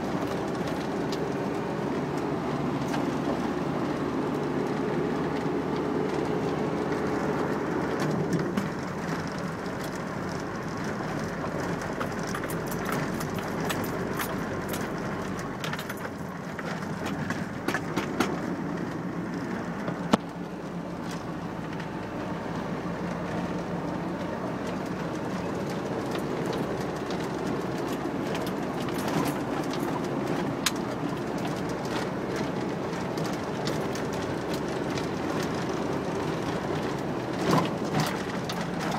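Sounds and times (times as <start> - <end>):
gravel crunching: 0.0 - 38.9
vehicle engine and tyres rumbling: 0.0 - 38.9.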